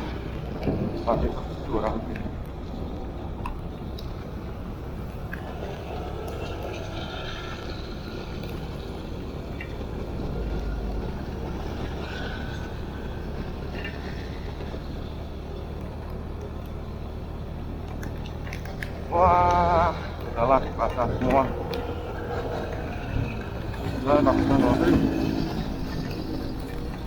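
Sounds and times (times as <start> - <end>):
wind and rain rushing: 0.0 - 27.0.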